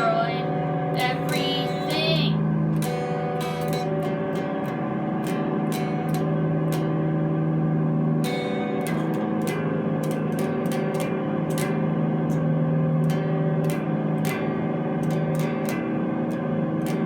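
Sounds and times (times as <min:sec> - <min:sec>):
distorted electric guitar music: 0:00.0 - 0:17.0.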